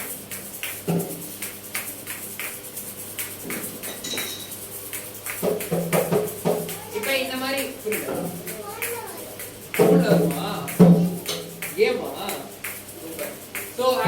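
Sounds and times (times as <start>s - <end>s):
shaker shells clacking and rattling: 0.0s - 14.0s.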